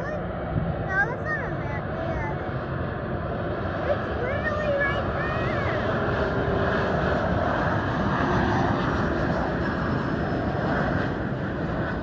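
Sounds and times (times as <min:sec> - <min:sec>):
jet engines rushing overhead: 0:00.0 - 0:12.0.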